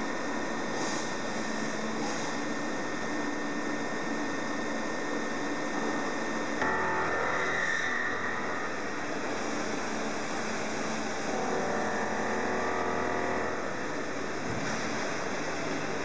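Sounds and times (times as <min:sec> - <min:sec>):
milling machine running: 0:00.0 - 0:16.0
whine of steady tones: 0:00.0 - 0:16.0
motor hum: 0:02.7 - 0:16.0.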